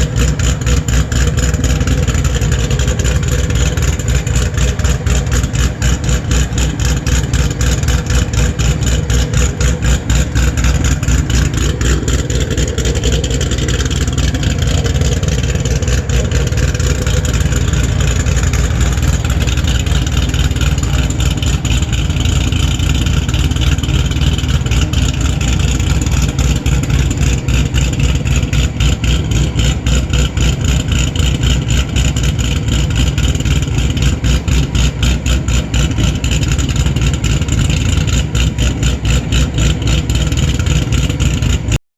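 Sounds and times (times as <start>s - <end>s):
car engine idling: 0.0s - 41.8s.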